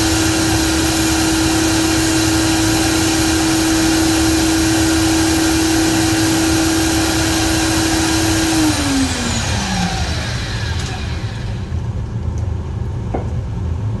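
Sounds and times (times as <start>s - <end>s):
power tool motor whining: 0.0s - 11.9s.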